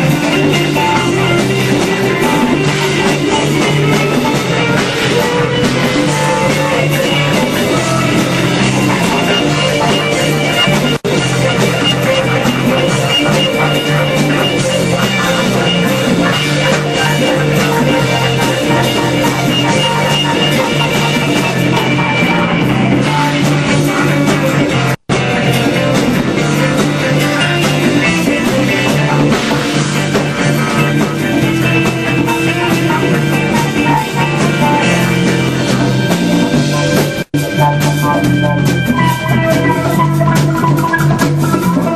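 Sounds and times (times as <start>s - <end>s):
live band playing instrumental jam: 0.0s - 41.9s.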